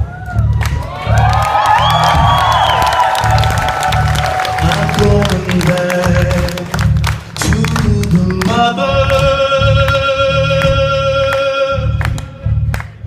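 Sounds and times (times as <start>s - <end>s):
live band music: 0.0s - 13.0s
pounding low beat: 0.0s - 13.0s.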